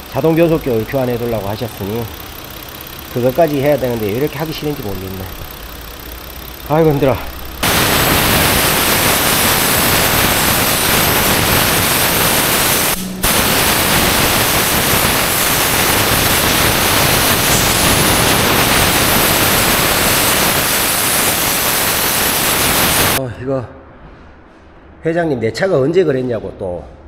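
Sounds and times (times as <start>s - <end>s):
loud steady hissing: 0.0s - 23.2s.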